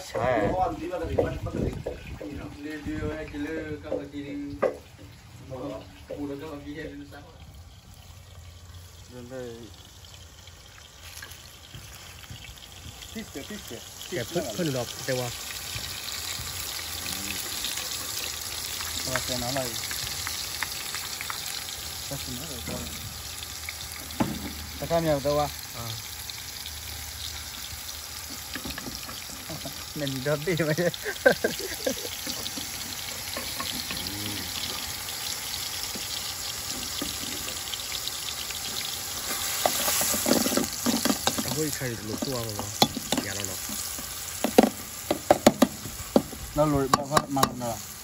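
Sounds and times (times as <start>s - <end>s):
broth boiling in a pot: 0.0s - 48.0s.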